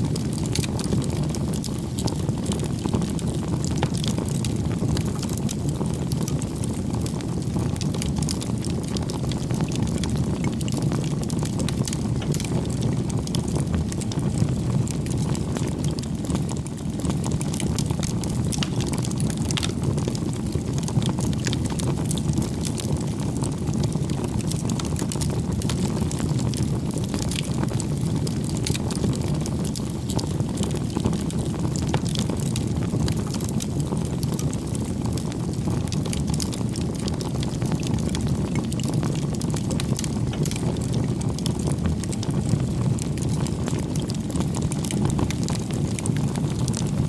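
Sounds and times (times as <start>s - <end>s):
low rumble of flames: 0.0s - 47.0s
wood crackling and popping: 0.0s - 47.0s.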